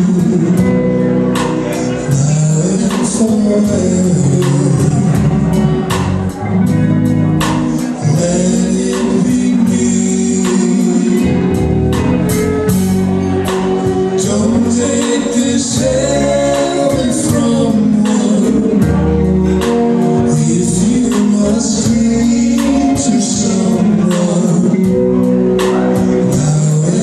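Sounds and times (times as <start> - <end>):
male singer: 0.0 - 6.4, 7.7 - 12.4, 13.5 - 27.0
bass guitar: 0.0 - 27.0
drum kit with cymbal hits: 0.0 - 27.0
electric guitar: 0.0 - 27.0.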